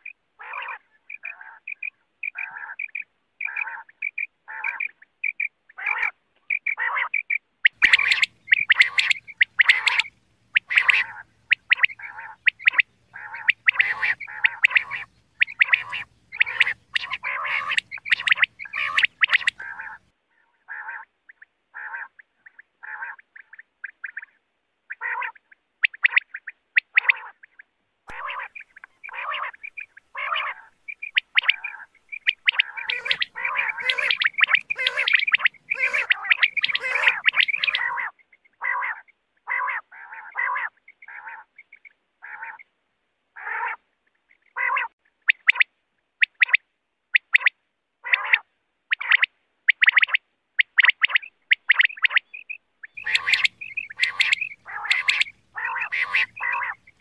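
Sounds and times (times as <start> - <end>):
quail calling: 0.0 - 42.7, 43.4 - 57.0.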